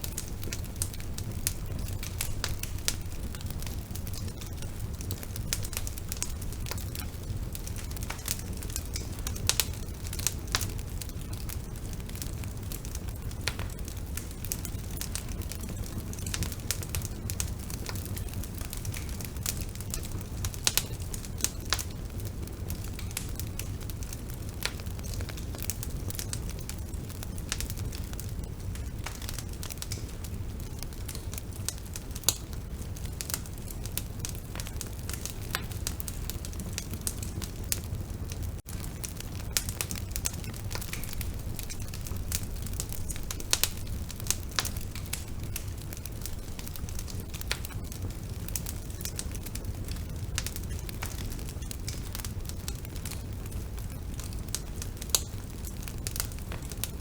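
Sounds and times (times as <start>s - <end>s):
bonfire flames rumbling: 0.0s - 57.0s
fire crackling and popping: 0.0s - 57.0s.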